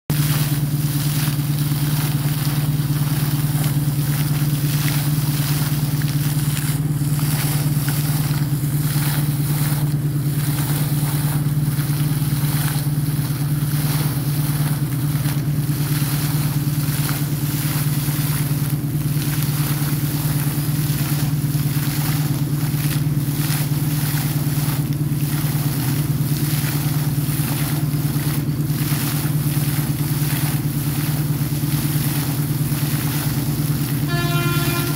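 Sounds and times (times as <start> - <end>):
air compressor humming: 0.1 - 32.8, 33.7 - 34.9
water gushing and splashing: 0.1 - 34.9.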